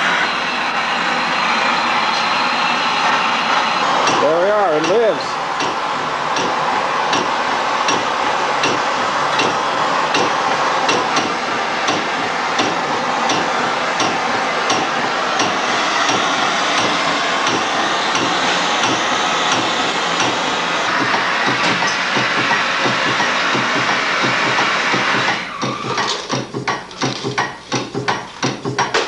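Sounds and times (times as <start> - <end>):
gas torch hissing: 0.0 - 26.2.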